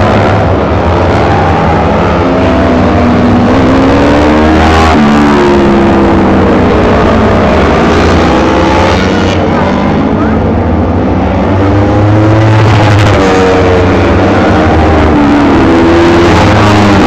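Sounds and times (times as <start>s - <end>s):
racing motorcycles at high revs: 0.0s - 17.0s.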